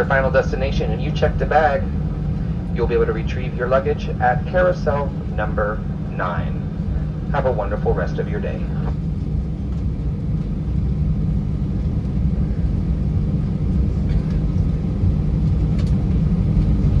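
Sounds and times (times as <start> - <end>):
airplane cabin rumble while taxiing: 0.0 - 17.0.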